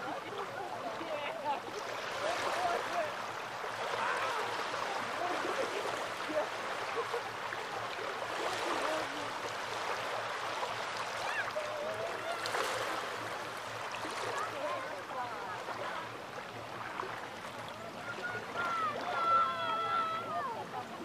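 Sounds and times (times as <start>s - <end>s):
faint distant voices: 0.0s - 21.0s
small waves lapping on shore: 0.0s - 21.0s.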